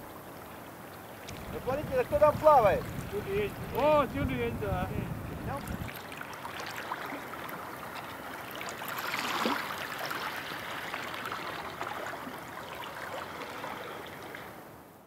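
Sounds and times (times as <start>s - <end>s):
sea water lapping and splashing: 0.0s - 15.0s.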